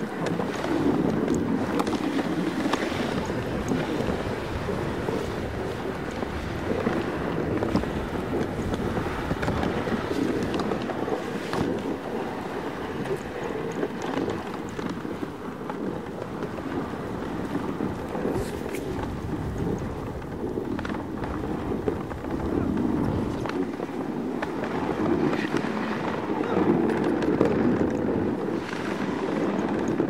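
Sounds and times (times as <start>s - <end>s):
sled rushing over snow: 0.0s - 30.0s.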